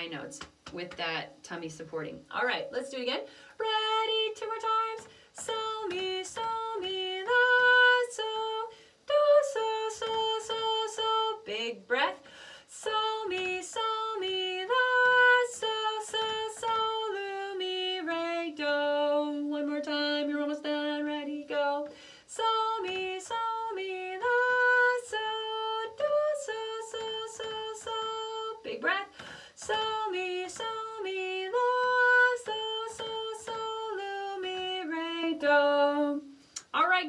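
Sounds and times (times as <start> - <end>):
woman singing unaccompanied: 0.0 - 37.0.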